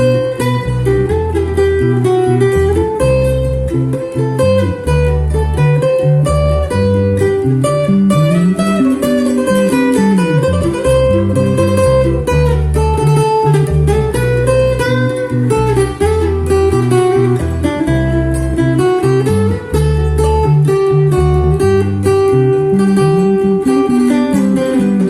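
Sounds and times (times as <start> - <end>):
acoustic guitar playing: 0.0 - 25.0.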